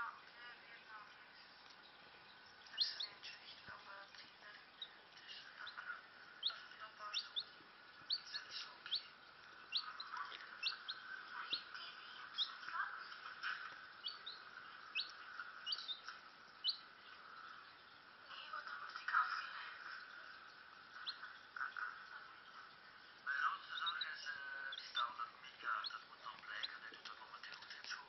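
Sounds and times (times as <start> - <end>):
chick peeping: 1.6 - 19.0, 19.9 - 22.3, 23.5 - 28.0.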